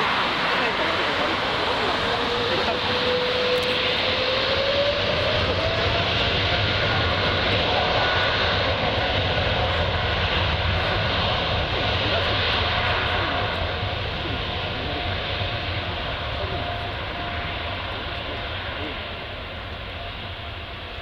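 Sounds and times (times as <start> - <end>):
jet engine roar with whine: 0.0 - 21.0.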